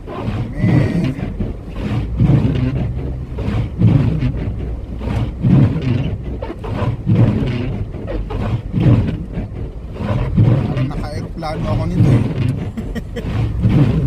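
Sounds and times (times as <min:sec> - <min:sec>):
car driving through snow: 0:00.0 - 0:14.0.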